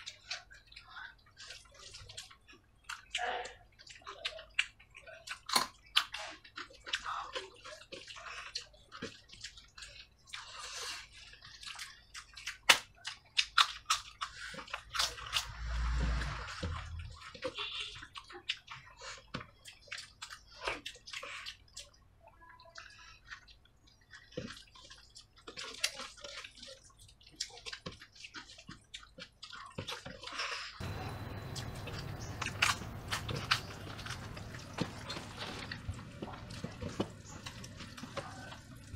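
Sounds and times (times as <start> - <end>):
mouths chewing and smacking: 0.0 - 38.9.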